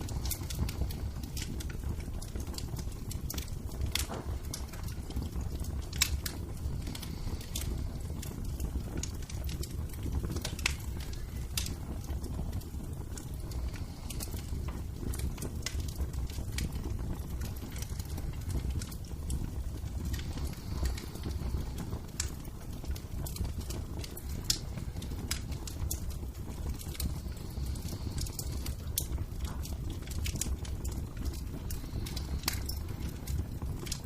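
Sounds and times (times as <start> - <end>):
low fire rumble: 0.0 - 34.0
wood fire crackling and popping: 0.0 - 34.0.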